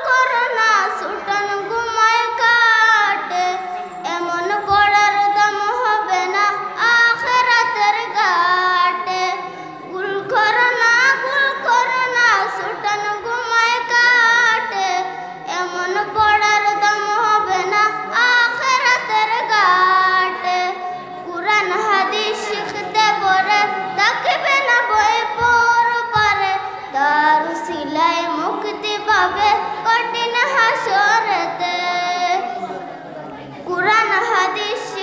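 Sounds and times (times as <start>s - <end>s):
girl singing into microphone: 0.0s - 32.6s, 33.6s - 35.0s.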